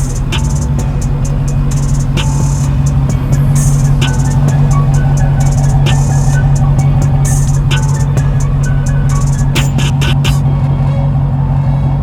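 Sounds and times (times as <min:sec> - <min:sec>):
music with cymbal hits: 0:00.0 - 0:10.7
car engine droning: 0:00.0 - 0:12.0.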